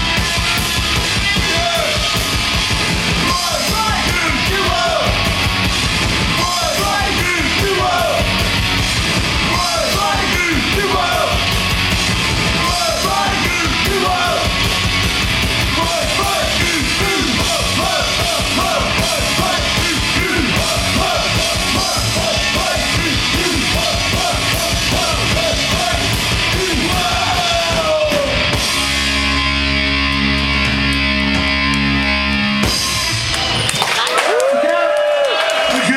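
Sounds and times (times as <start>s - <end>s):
shouted lead vocals: 0.0s - 29.9s
distorted electric guitars: 0.0s - 34.0s
bass guitar: 0.0s - 34.6s
drums: 0.0s - 35.9s.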